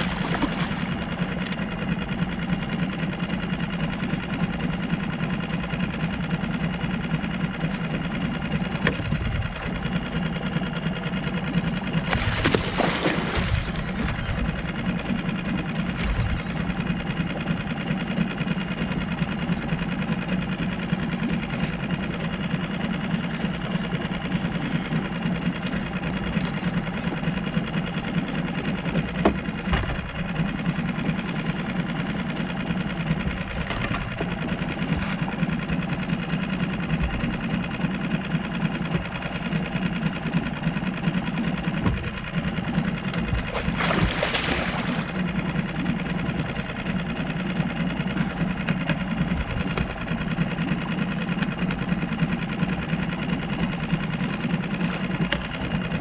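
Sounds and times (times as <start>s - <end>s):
boat motor idling: 0.0s - 56.0s.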